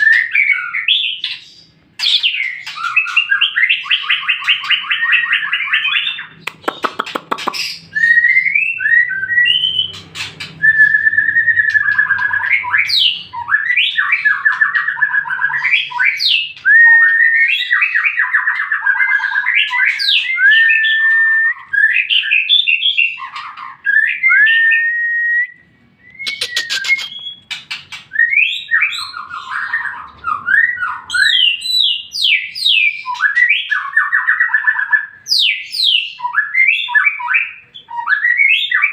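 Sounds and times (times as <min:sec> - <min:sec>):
bird singing whistled song: 0:00.0 - 0:38.9.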